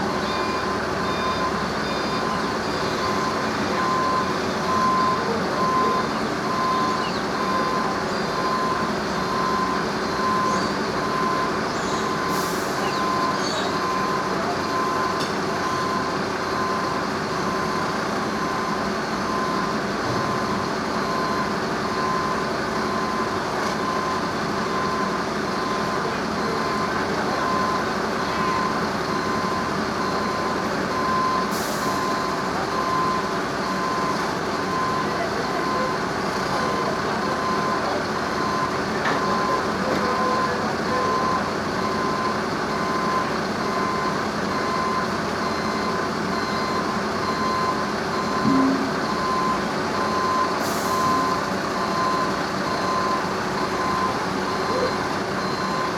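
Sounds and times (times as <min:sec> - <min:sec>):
reversing alarm beeping: 0:00.0 - 0:55.9.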